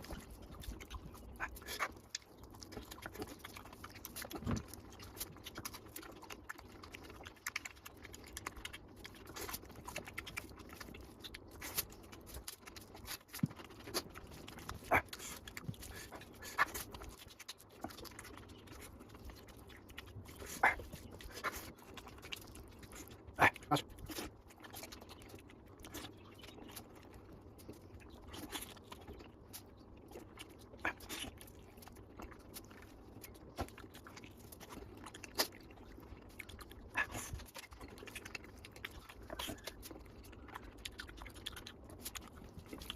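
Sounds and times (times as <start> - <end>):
wet chewing and lip smacking: 0.0 - 42.9.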